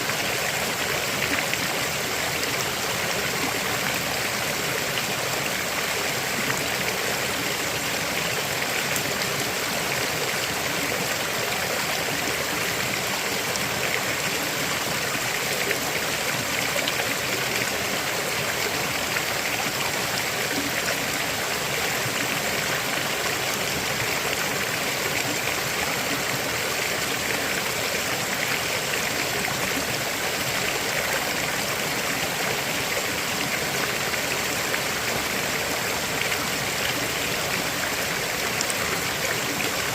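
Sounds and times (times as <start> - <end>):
river water splashing over rocks: 0.0 - 39.9.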